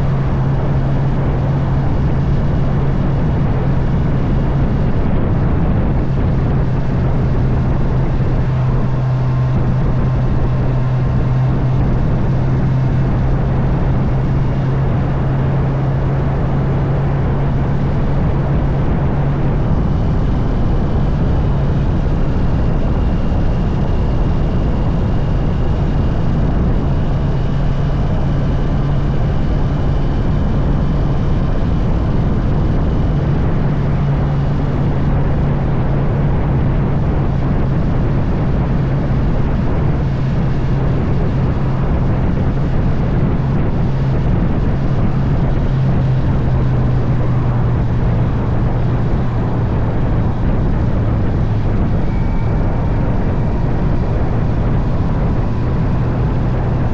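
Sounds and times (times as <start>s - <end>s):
motorcycle engine cruising: 0.0s - 56.9s
wind rush: 0.0s - 56.9s.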